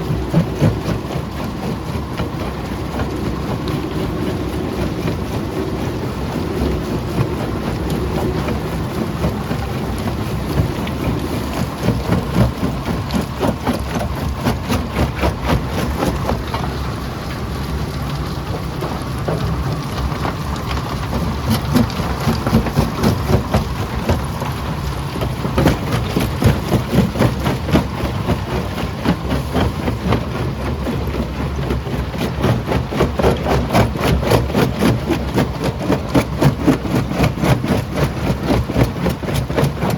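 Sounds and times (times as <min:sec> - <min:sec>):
jaw crusher rumbling: 0:00.0 - 0:39.9.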